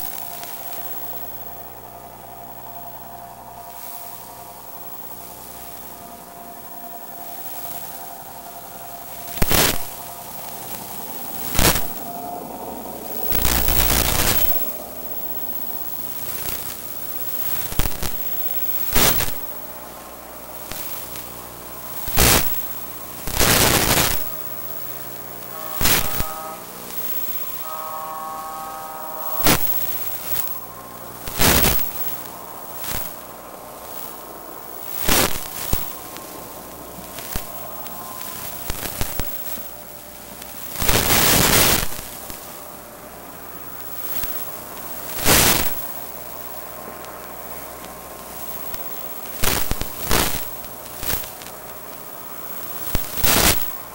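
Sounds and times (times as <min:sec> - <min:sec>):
radio static hiss and buzz: 0:00.0 - 0:53.9
sharp static cracks: 0:00.0 - 0:53.9.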